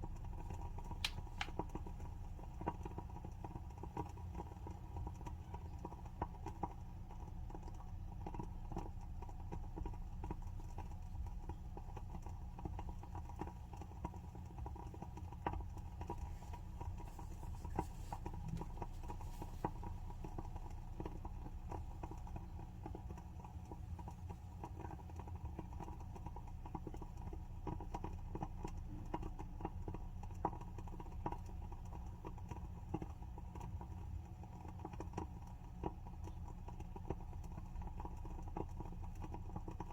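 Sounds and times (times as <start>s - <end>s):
candle wick crackling: 0.0s - 39.9s.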